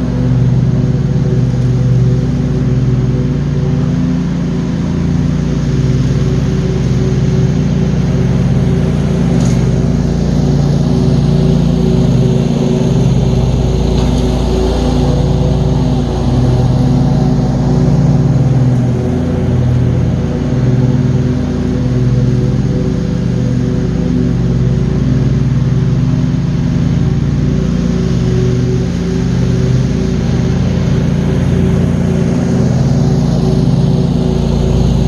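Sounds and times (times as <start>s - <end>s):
mower engine running: 0.0s - 35.0s.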